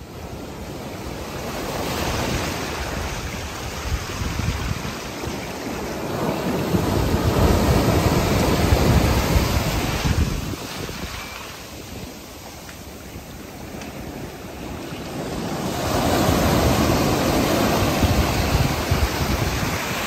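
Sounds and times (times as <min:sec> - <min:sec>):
ocean surf washing onto beach: 0:00.0 - 0:20.0
wind buffeting microphone: 0:01.2 - 0:20.0.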